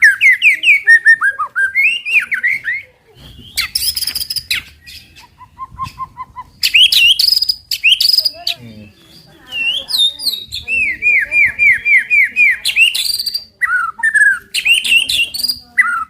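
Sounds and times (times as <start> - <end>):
songbird singing whistles: 0.0 - 16.0.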